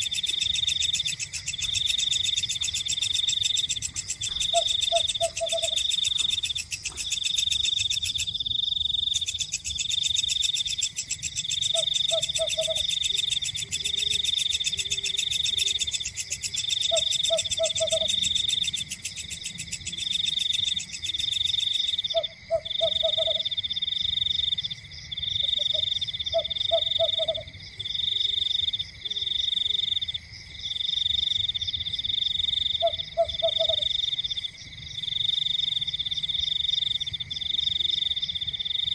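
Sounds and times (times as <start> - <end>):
frog croaking: 0.0 - 24.4, 25.2 - 30.1, 32.1 - 34.4
insects trilling: 0.0 - 38.9.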